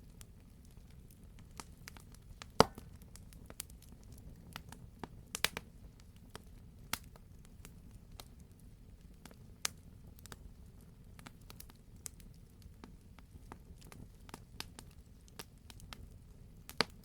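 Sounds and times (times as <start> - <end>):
fire popping: 0.1 - 17.0.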